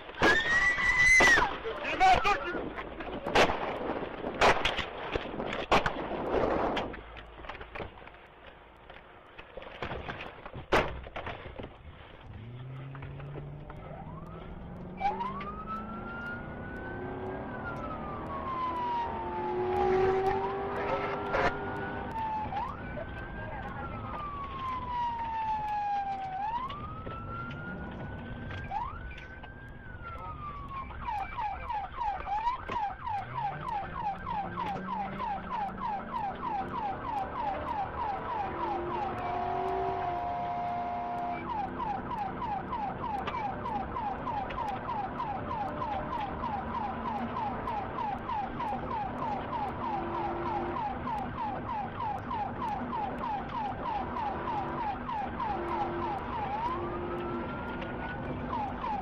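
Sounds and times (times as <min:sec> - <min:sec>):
vehicle engine and road noise: 0:00.0 - 0:59.0
police siren wailing and yelping: 0:00.1 - 0:03.4, 0:12.4 - 0:59.0.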